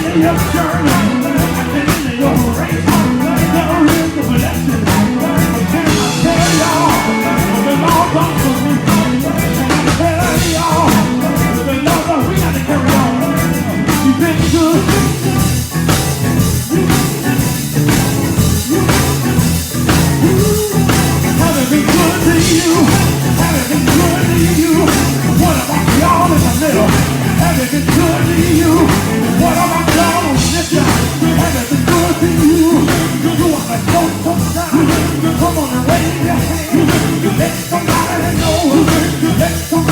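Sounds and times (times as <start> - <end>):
band playing rock music: 0.0 - 39.9
drum kit beat: 0.0 - 39.9
person singing: 0.0 - 39.9.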